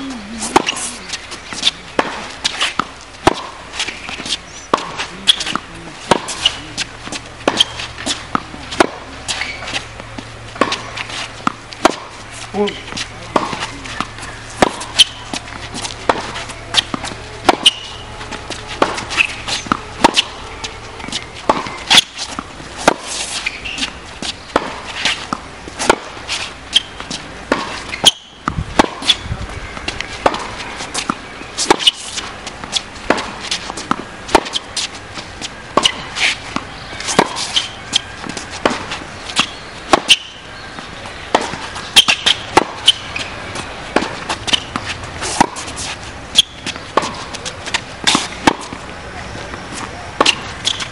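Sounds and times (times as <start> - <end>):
tennis ball bouncing: 0.0 - 50.9
racket striking tennis ball: 0.4 - 50.9.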